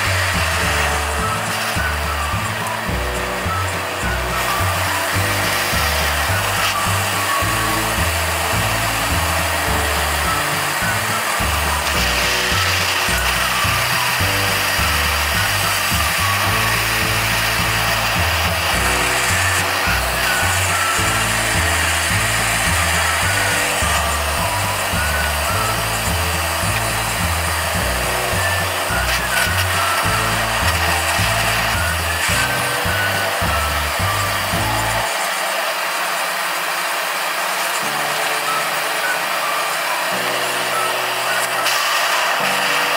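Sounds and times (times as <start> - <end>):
upbeat background music: 0.0 - 35.2, 37.8 - 42.9
gas torch flame hissing: 0.0 - 42.9.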